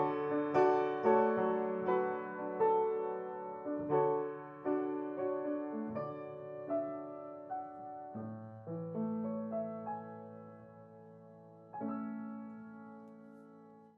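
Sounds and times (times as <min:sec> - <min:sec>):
slow solo piano: 0:00.0 - 0:13.9.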